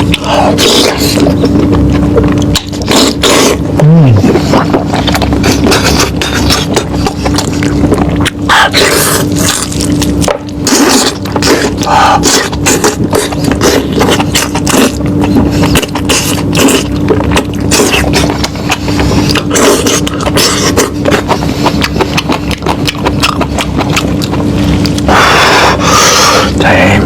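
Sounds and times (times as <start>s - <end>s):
person chewing and smacking: 0.0s - 26.6s
low hum: 0.0s - 27.0s.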